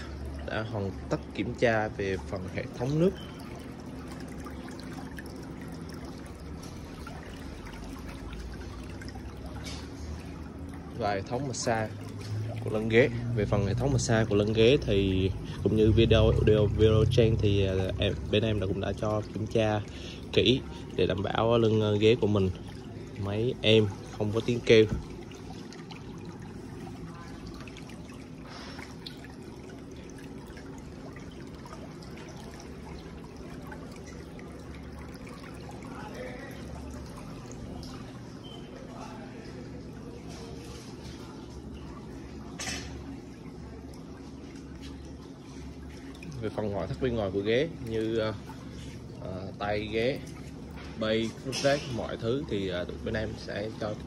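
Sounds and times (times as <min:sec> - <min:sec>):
faint low hum: 0:00.0 - 0:54.0
water running and trickling: 0:00.0 - 0:54.0.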